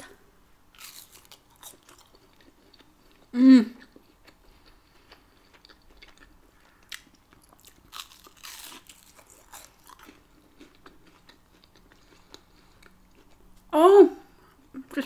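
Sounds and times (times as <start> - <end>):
chewing toasted tortilla: 0.7 - 13.7.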